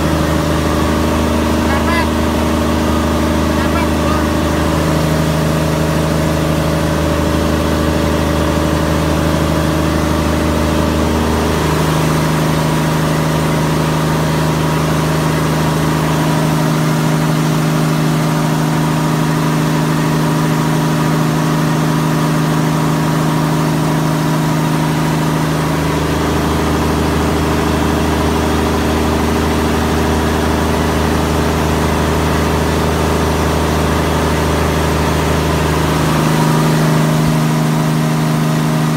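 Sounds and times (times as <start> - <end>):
diesel engines running loudly: 0.0 - 38.9.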